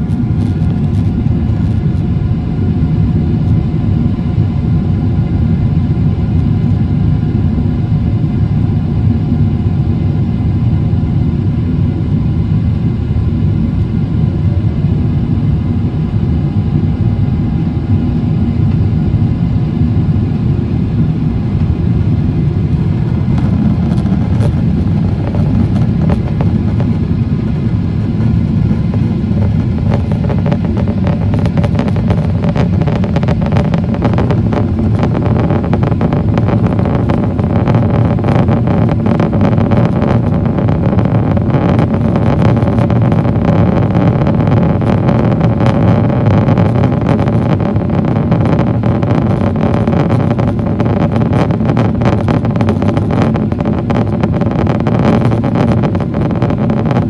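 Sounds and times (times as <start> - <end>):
aircraft cabin roar: 0.0 - 57.0
faint steady hum: 0.0 - 57.0.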